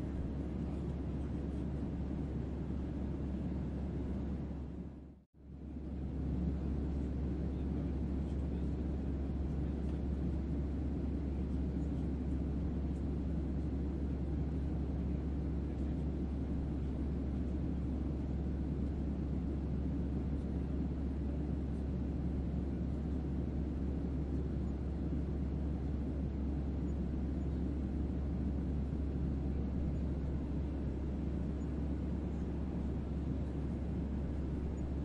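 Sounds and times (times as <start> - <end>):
jet engine drone in cabin: 0.0 - 35.0.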